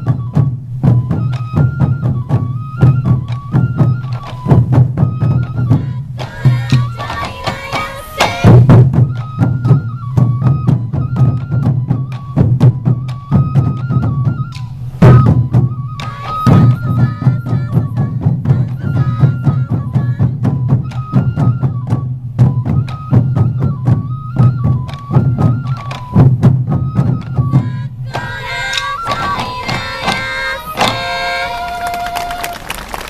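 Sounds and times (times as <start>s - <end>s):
bamboo flute melody: 0.0s - 33.0s
taiko drums beating: 0.0s - 33.0s.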